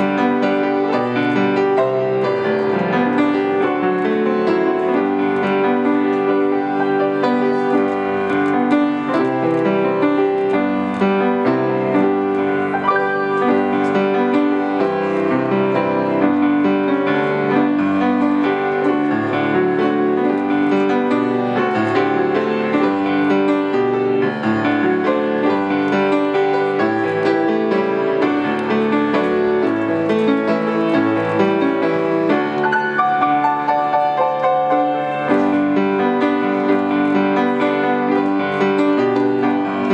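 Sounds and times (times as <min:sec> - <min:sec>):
solo grand piano hymn: 0:00.0 - 0:39.9.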